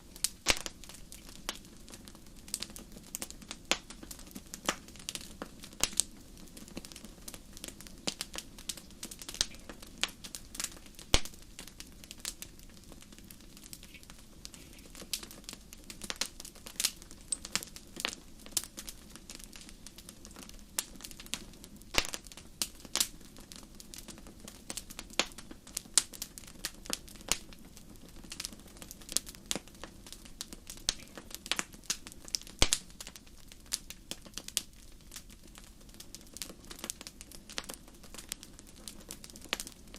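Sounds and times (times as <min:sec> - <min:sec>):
fire crackling: 0:00.0 - 0:39.9
low steady background noise: 0:00.0 - 0:39.9.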